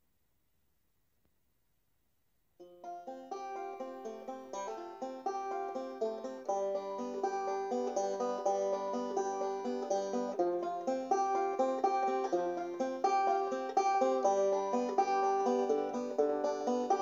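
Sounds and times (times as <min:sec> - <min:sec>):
plucked banjo music: 0:02.6 - 0:17.0.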